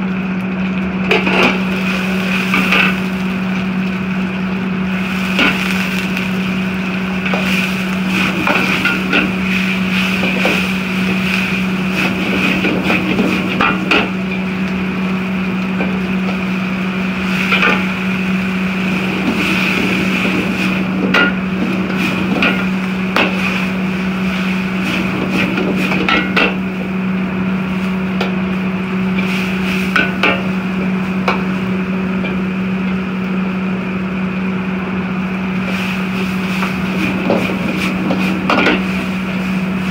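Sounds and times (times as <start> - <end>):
gas burner humming: 0.0 - 39.9.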